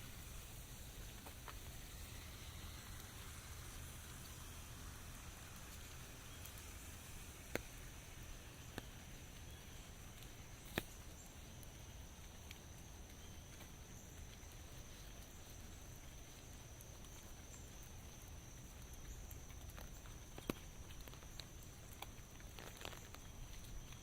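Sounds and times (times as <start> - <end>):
light rain hissing: 0.0 - 24.0
raindrops landing close by: 0.0 - 24.0.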